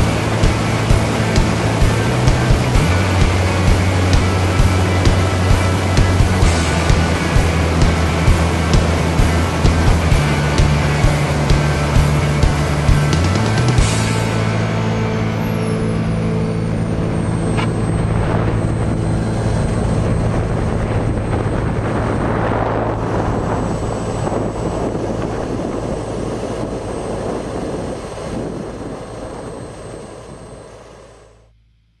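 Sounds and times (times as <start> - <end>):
rushing air: 0.0 - 31.1
jet turbine whine: 0.0 - 31.6.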